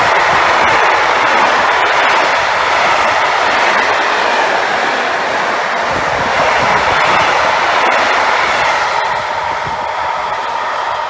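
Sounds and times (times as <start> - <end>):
train wheels rushing on rail: 0.0 - 11.0.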